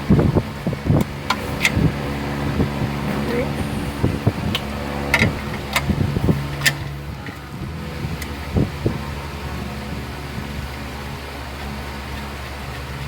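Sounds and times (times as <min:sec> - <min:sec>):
fan running: 0:00.0 - 0:13.0.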